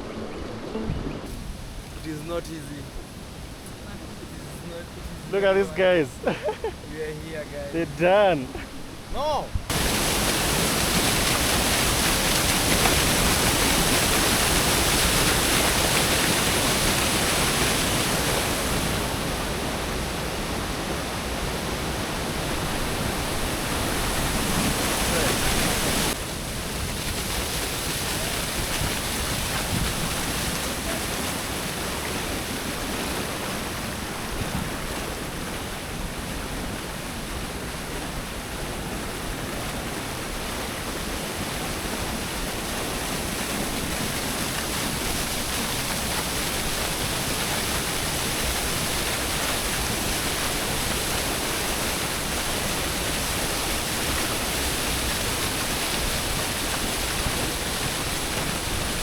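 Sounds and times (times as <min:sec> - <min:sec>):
waterfall crashing into pool: 0:01.1 - 0:59.0.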